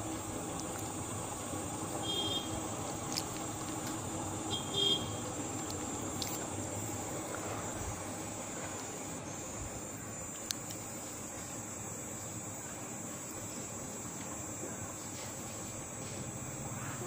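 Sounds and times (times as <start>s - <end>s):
steady hiss: 0.0s - 17.0s
thin high whine: 0.0s - 17.0s.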